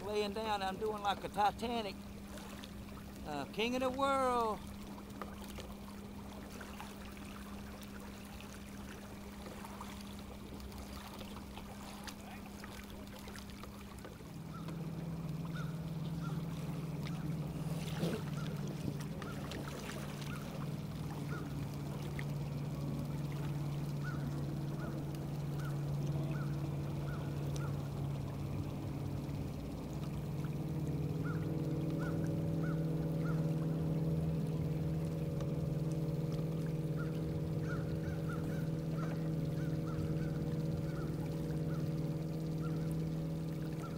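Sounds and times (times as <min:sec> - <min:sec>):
electric trolling motor humming: 0:00.0 - 0:43.9.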